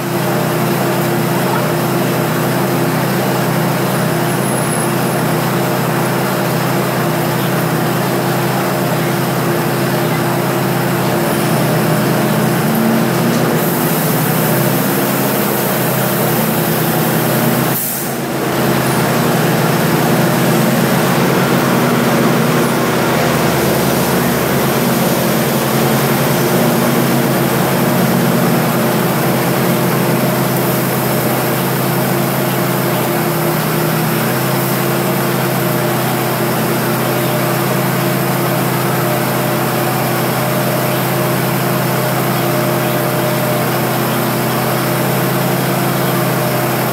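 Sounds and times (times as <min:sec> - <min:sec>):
diesel train engine idling: 0:00.0 - 0:46.9.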